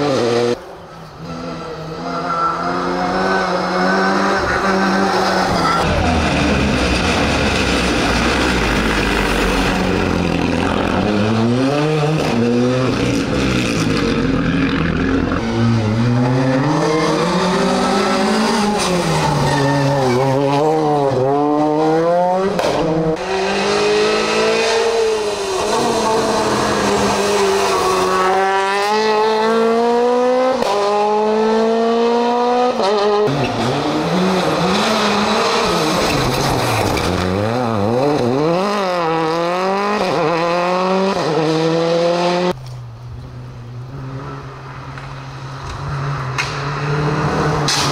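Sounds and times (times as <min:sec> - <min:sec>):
rally car engine revving: 0:00.0 - 0:42.6, 0:43.4 - 0:47.9.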